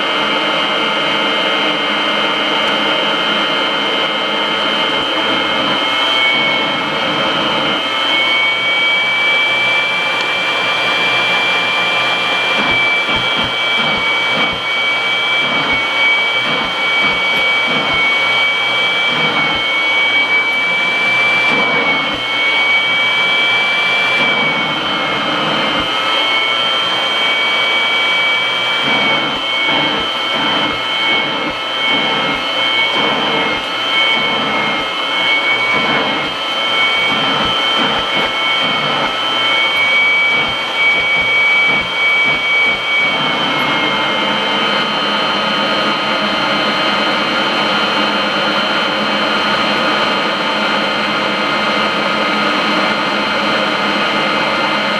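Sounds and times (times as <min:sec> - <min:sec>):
vacuum cleaner whining: 0:00.0 - 0:54.9.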